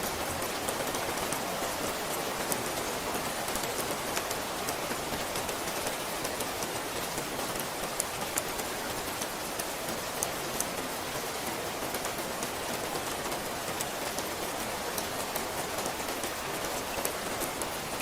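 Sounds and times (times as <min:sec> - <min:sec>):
raindrops pattering: 0:00.0 - 0:18.0
steady rain falling: 0:00.0 - 0:18.0.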